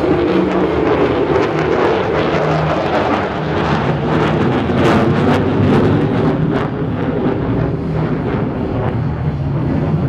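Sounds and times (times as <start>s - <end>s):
jet engine crackle: 0.0s - 10.0s
loud jet engine: 0.0s - 10.0s.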